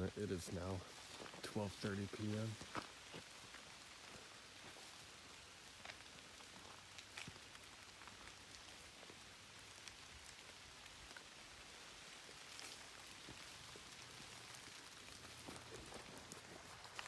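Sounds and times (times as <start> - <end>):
faint steady rain: 0.0 - 17.0
raindrops ticking: 0.0 - 17.0.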